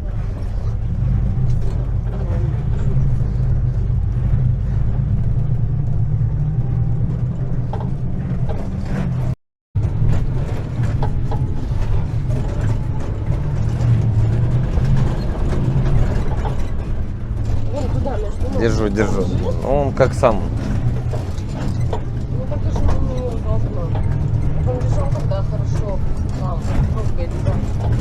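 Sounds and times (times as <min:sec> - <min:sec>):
rattles inside cabin: 0:00.0 - 0:28.0
vehicle engine droning: 0:00.0 - 0:28.0.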